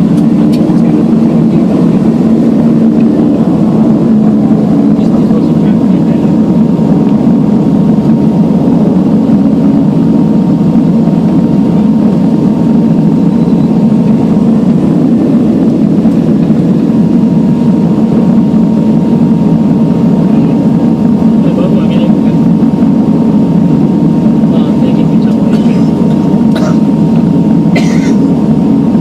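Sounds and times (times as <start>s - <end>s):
airliner cabin engine drone: 0.0s - 29.0s.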